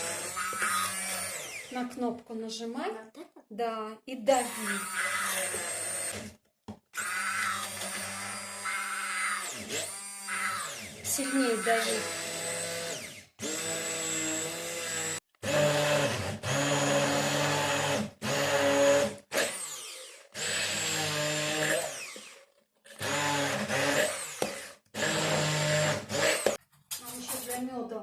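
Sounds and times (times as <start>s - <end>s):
electric hand blender whining: 0.0s - 2.0s, 4.3s - 6.4s, 7.0s - 26.6s.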